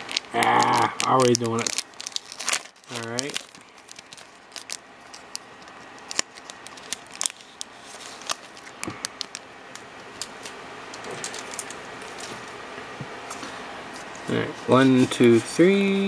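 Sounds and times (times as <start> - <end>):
foil wrapper crinkling: 0.0 - 12.6, 13.4 - 16.0.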